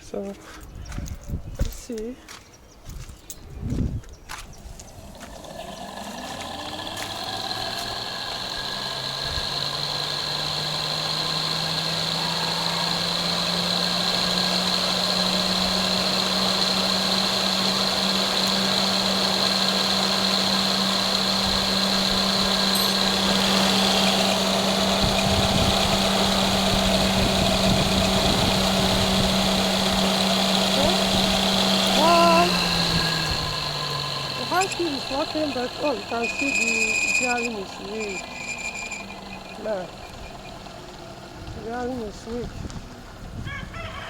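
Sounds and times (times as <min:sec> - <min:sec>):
engine cooling fan motor hum: 0:03.7 - 0:43.8.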